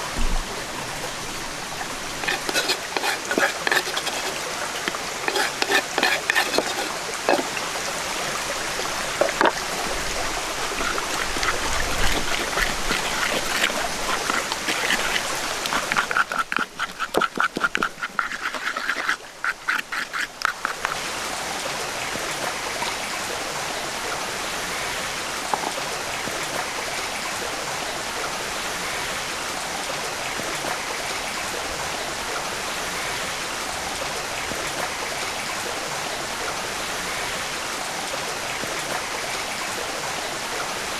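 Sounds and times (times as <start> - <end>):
stream running: 0.0 - 40.9.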